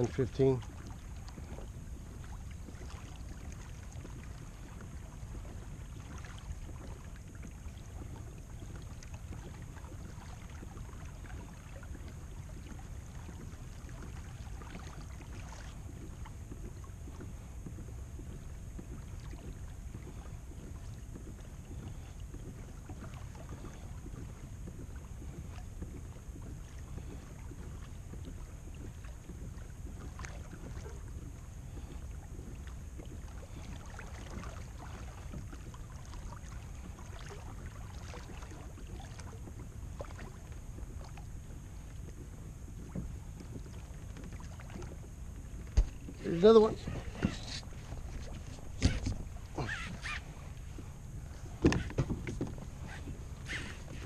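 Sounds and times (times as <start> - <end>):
faint water movement: 0.0 - 54.0
wind on microphone: 0.0 - 54.0.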